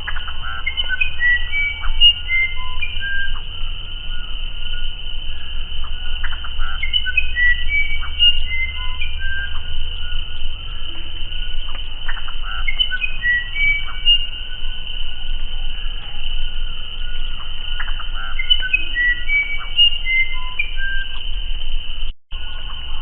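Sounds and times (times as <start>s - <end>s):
wren whistled song: 0.0s - 23.0s.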